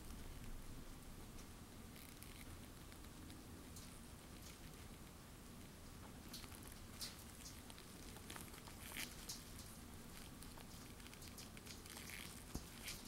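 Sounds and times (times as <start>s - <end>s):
low steady hiss: 0.0s - 13.0s
small ticks: 1.4s - 13.0s.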